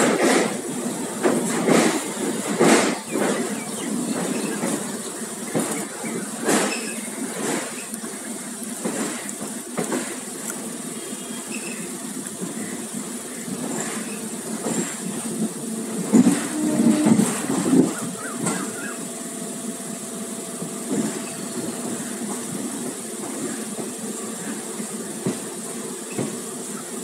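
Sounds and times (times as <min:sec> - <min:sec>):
train wheels knocking over rail joints: 0:00.0 - 0:10.8, 0:13.4 - 0:19.0, 0:20.6 - 0:26.6
train rolling rumble: 0:00.0 - 0:27.0.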